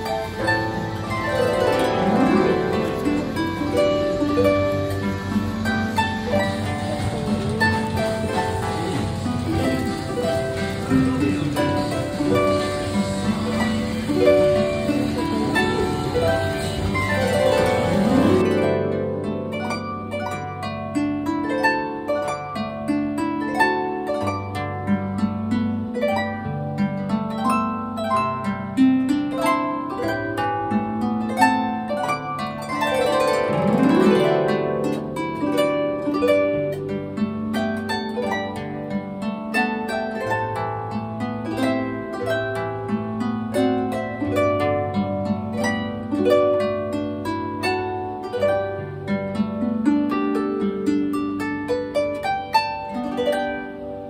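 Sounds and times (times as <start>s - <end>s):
harp glissando: 0.0s - 54.0s
harp melody: 0.0s - 54.0s.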